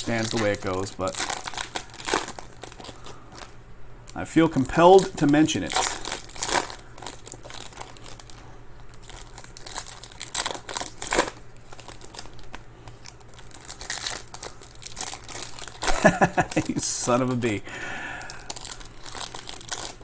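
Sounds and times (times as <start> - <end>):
card pack wrappers crinkling tearing: 0.0 - 20.0.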